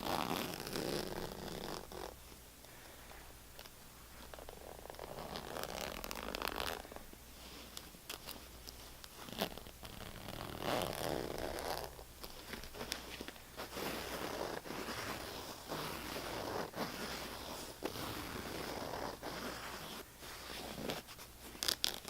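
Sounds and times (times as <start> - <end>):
scratching on hard surface: 3.0 - 22.0.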